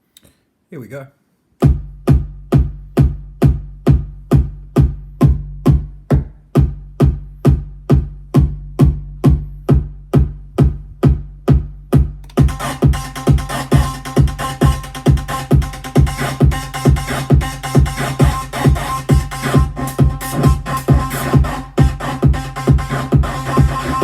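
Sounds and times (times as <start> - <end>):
electronic kick drum pulse: 1.6 - 24.0
noisy electronic percussion: 1.6 - 24.0.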